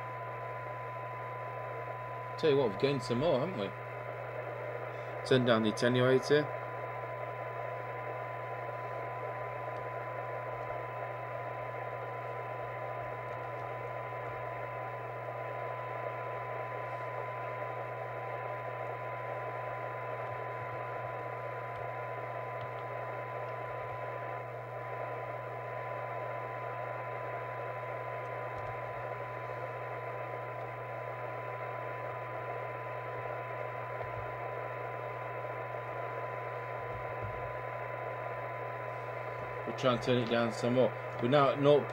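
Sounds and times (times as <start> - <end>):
low hum: 0.0 - 41.9
radio receiver hiss: 0.0 - 41.9.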